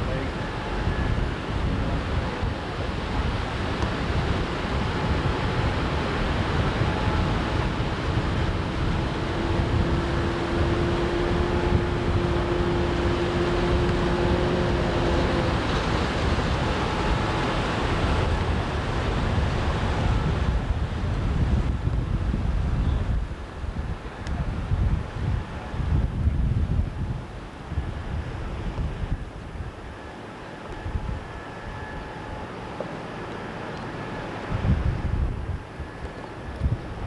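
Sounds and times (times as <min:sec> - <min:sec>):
faint steady motor tone: 0:00.0 - 0:20.8, 0:21.4 - 0:37.0
wind rushing over microphone: 0:00.0 - 0:37.0.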